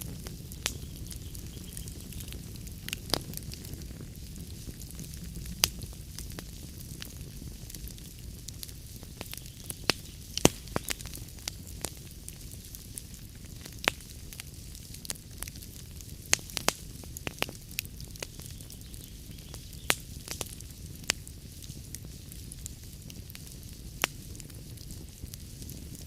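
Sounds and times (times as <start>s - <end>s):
log fire crackling: 0.0s - 26.0s.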